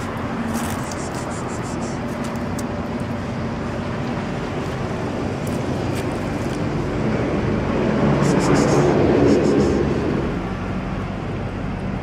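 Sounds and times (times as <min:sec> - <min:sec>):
street traffic with engine hum: 0:00.0 - 0:12.0.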